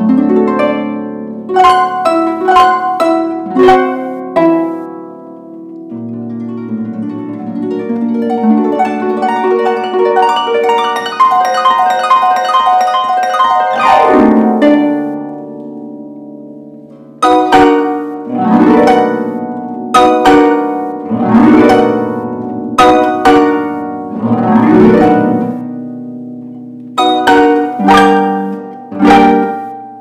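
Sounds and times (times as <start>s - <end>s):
harp plucked notes and glissandi: 0.0s - 30.0s.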